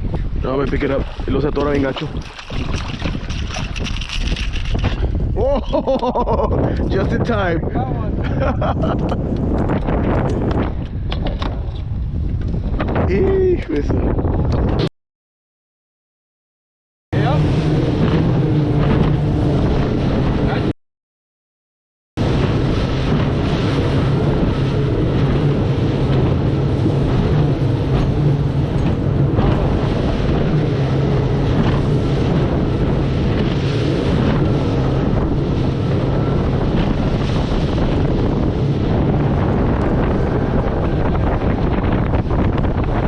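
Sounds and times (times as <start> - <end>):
wind buffeting microphone: 0.0 - 14.9, 17.2 - 20.7, 22.2 - 43.0.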